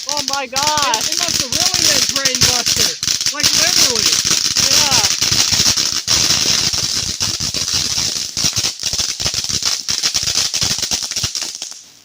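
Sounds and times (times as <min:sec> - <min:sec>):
firework crackling and popping: 0:00.0 - 0:12.0
firework hiss: 0:00.0 - 0:12.0.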